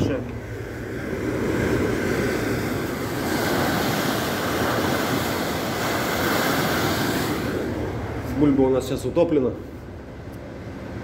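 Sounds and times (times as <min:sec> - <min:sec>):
bow wave rushing along hull: 0:00.0 - 0:11.0.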